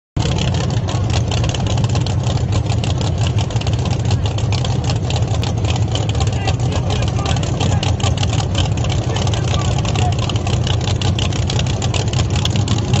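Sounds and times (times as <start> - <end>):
race car engines idling loudly: 0.2 - 13.0.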